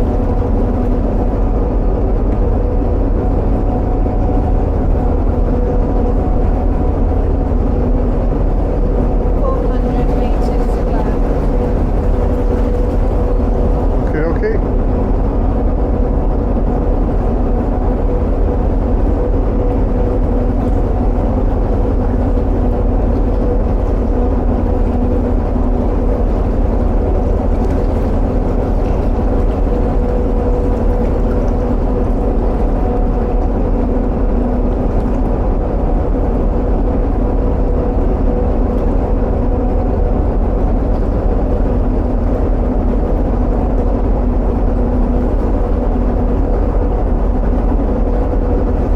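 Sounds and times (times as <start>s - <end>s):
boat engine rumbling: 0.0s - 48.9s.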